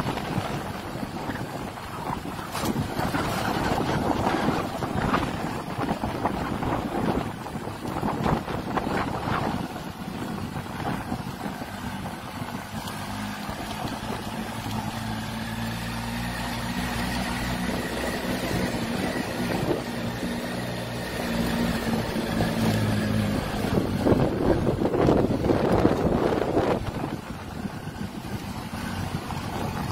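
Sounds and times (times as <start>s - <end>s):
motorcycle engine running: 0.0s - 29.9s
wind rushing over microphone: 0.0s - 29.9s.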